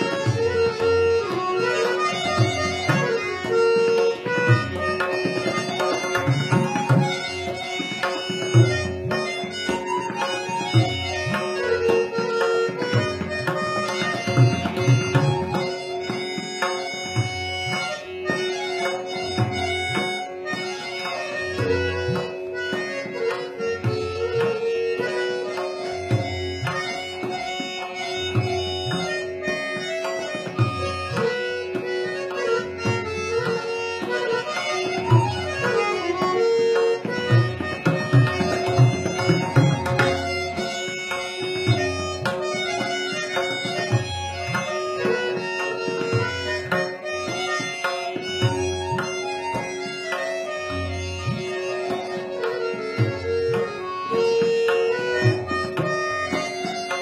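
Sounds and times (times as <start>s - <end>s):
harmonium melody: 0.0s - 57.0s
tabla playing rhythm: 0.0s - 57.0s.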